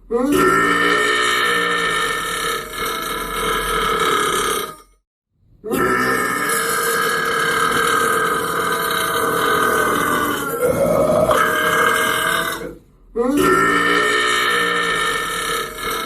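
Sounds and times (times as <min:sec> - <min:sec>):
man burping: 0:00.1 - 0:04.8, 0:05.6 - 0:16.0.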